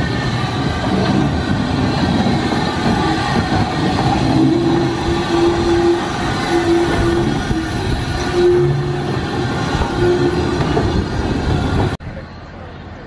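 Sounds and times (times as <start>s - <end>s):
steady locomotive tone: 0.0s - 13.0s
steam locomotive running slowly: 0.0s - 13.0s.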